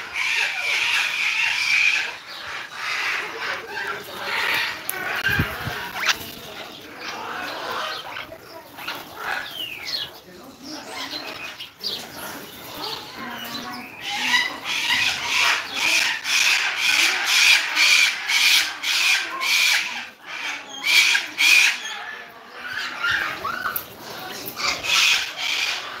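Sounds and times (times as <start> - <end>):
parakeets calling: 0.0 - 26.0.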